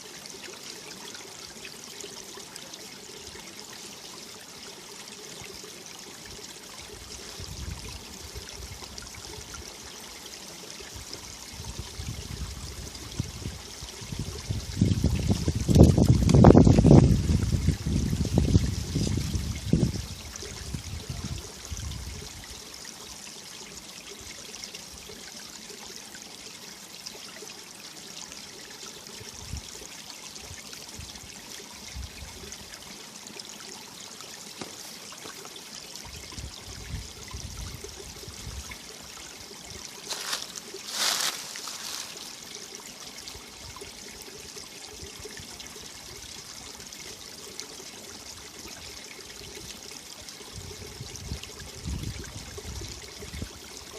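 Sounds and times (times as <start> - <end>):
stream trickling over rocks: 0.0 - 53.9.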